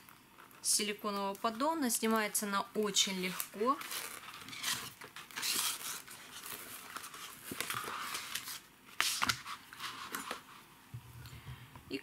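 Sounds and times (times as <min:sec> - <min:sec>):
fruit leather rustling and crinkling: 0:00.0 - 0:10.8.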